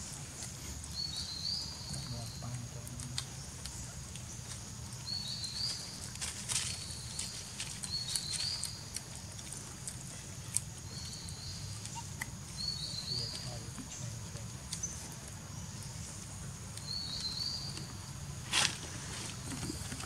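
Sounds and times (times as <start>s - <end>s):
bird chirping: 0.0s - 18.2s.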